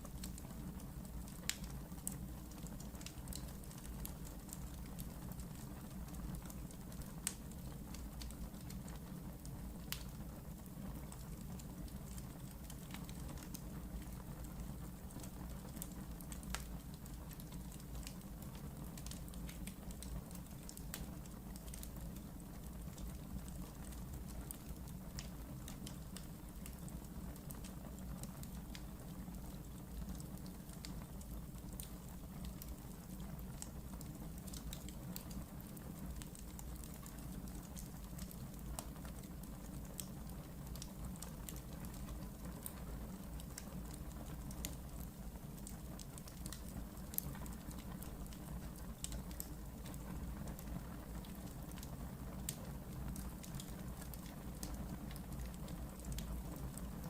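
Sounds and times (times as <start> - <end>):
fire crackling and popping: 0.0 - 57.0
low rumble of fire flames: 0.0 - 57.0.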